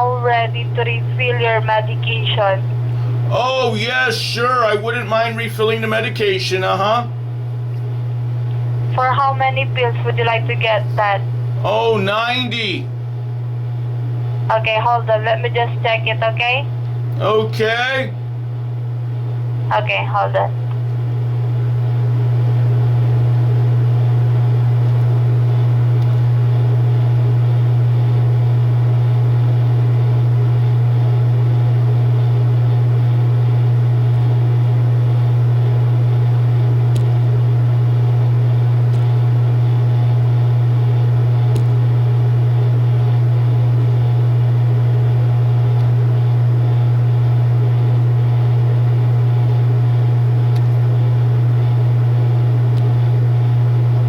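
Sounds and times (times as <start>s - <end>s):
low hum on phone line: 0.0s - 54.0s.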